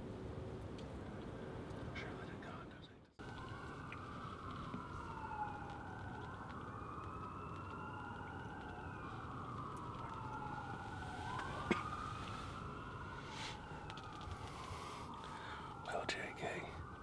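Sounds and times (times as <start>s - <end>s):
distant siren wailing: 3.2s - 17.0s.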